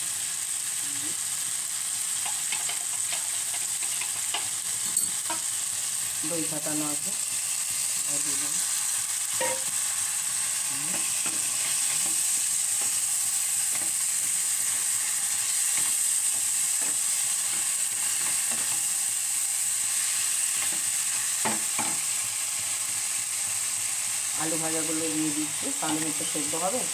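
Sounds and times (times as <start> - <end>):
masala sizzling in a frying pan: 0.0 - 26.9.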